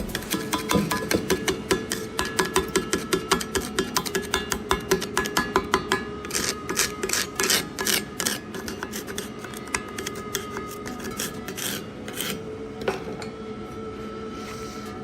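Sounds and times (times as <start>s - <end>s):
tool scraping metal: 0.0s - 5.5s, 6.2s - 13.3s.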